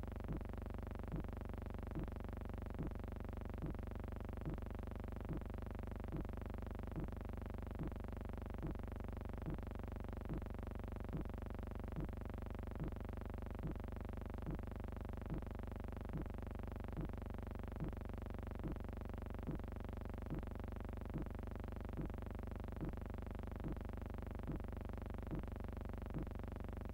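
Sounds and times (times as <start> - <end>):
soft repeating pulse: 0.0 - 26.9.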